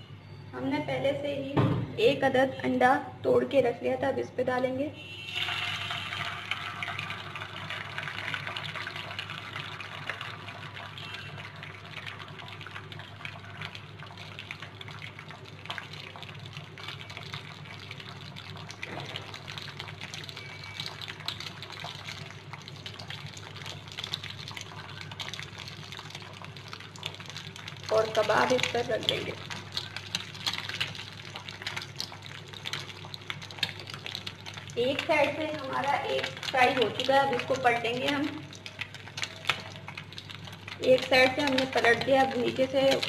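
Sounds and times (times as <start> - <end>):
egg sizzling in hot oil: 5.2 - 43.0.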